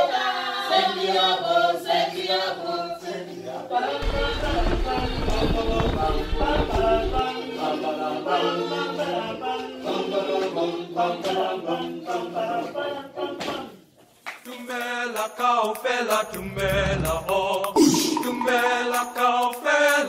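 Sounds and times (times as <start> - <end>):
group singing a cappella: 0.0 - 20.0.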